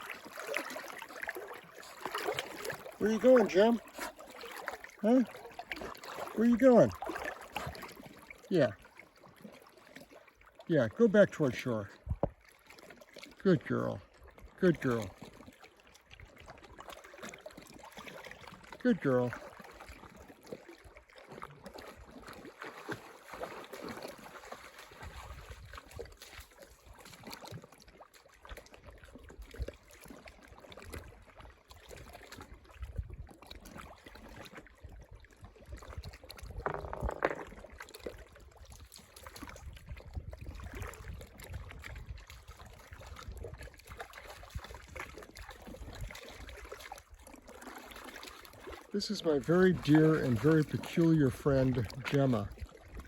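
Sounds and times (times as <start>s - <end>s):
water lapping and splashing: 0.0s - 53.0s.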